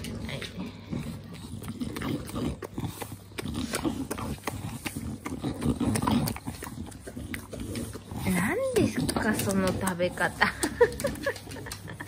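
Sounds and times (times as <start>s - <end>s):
dogs breathing noisily: 0.0s - 12.0s
dogs chewing with wet smacks: 0.0s - 12.0s.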